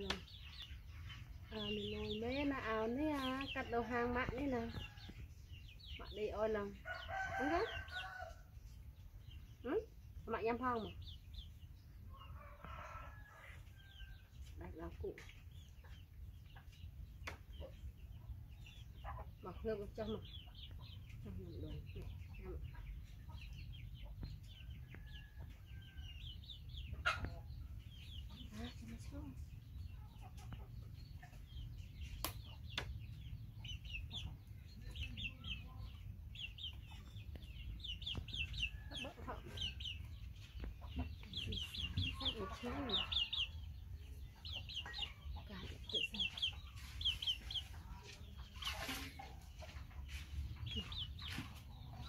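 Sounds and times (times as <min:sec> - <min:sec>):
birds chirping: 0:00.0 - 0:52.0
chicks peeping: 0:00.0 - 0:52.0.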